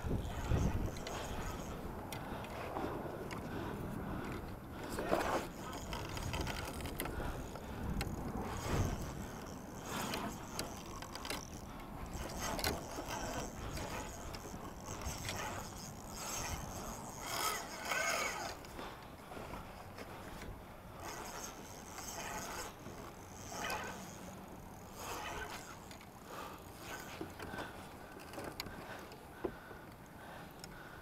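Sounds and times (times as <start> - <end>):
fishing reel clicking: 0.0 - 3.5, 4.2 - 19.6, 20.2 - 29.1.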